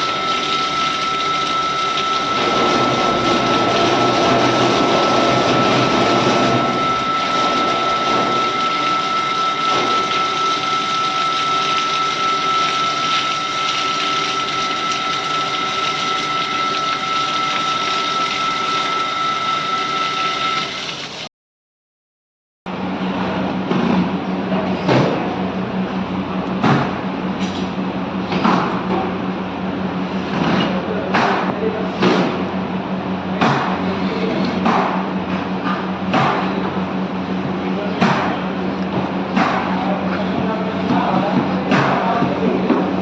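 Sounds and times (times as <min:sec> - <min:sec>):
pump whine: 0:00.0 - 0:21.3, 0:22.7 - 0:43.0.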